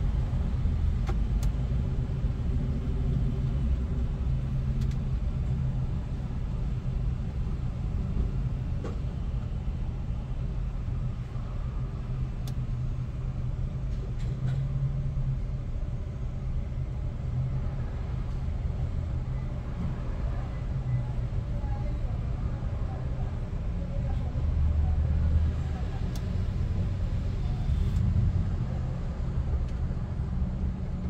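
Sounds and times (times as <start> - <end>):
engine rumbling: 0.0 - 31.0.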